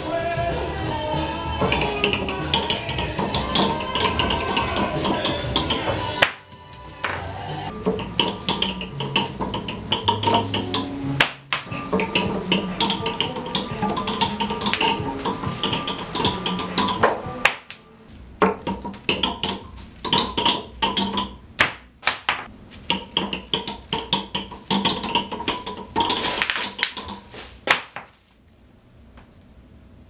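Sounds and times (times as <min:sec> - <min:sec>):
ball clattering down pins: 0:01.5 - 0:17.8, 0:18.4 - 0:28.4.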